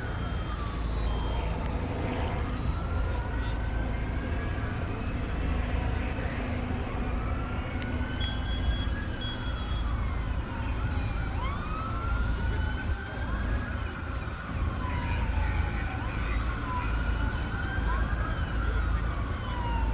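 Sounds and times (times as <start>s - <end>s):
emergency sirens wailing: 0.0s - 19.9s.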